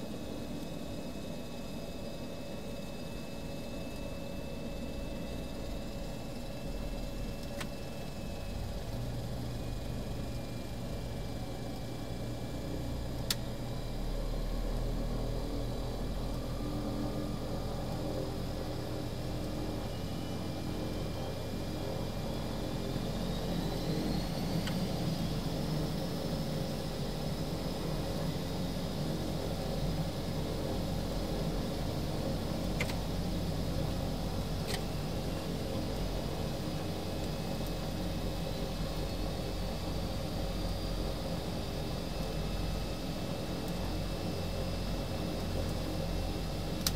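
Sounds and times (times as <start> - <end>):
aircraft engines rumbling: 0.0 - 46.9.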